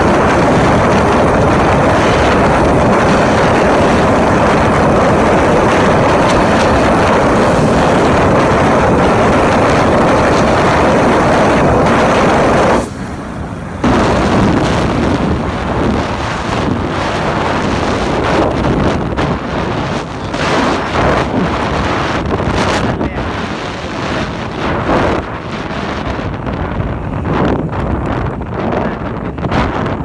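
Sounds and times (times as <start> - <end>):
vehicle running noise: 0.0 - 30.0
wind buffeting microphone: 0.0 - 30.0.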